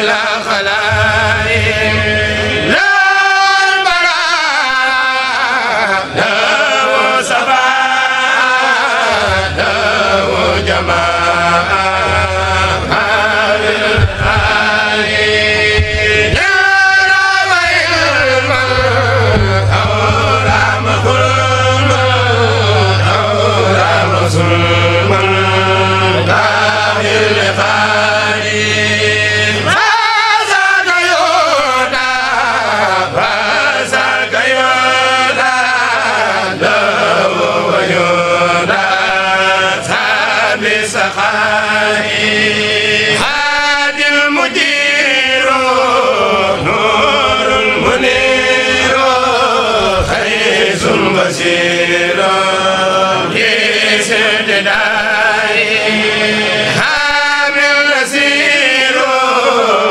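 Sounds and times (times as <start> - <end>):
steady low hum: 0.0 - 58.2
group of voices chanting: 0.0 - 59.9.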